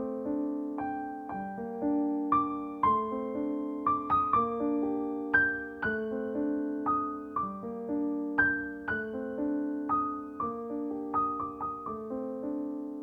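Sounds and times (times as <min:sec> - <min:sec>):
solo piano melody: 0:00.0 - 0:13.0.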